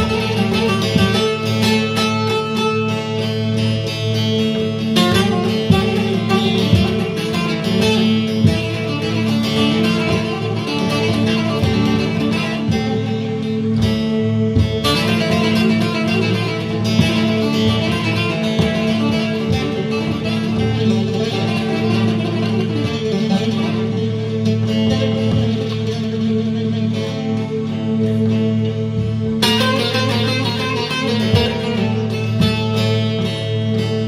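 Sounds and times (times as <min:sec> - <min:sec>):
plucked string music: 0:00.0 - 0:34.0.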